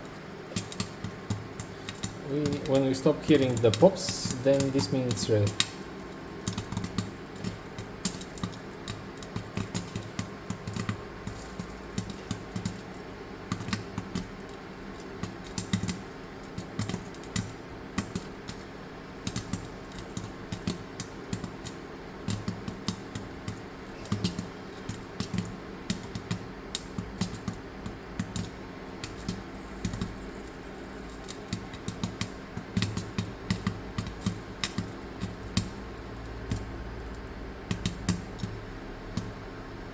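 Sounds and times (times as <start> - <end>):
steady low hum: 0.0 - 16.5, 17.5 - 39.9
popcorn popping in a pot: 0.0 - 39.9.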